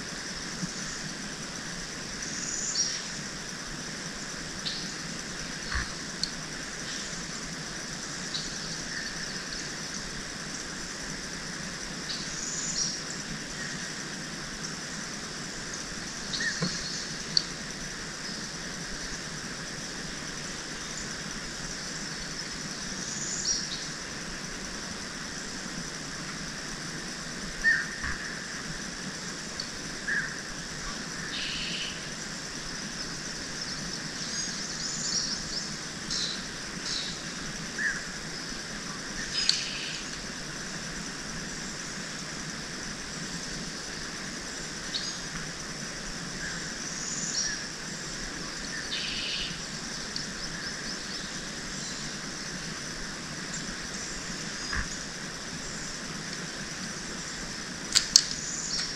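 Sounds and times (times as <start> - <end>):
steady background hiss: 0.0 - 58.9.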